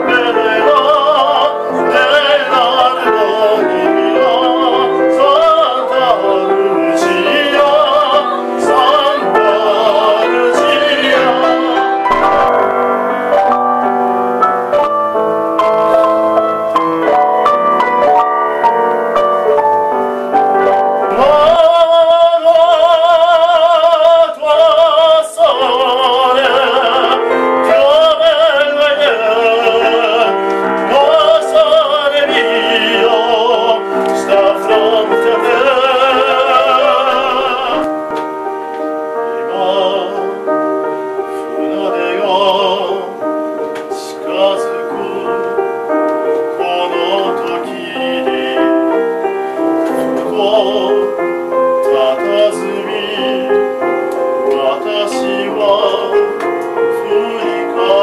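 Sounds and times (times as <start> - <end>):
man singing opera: 0.0 - 13.3, 21.0 - 38.2, 38.8 - 58.0
grand piano: 0.0 - 58.0.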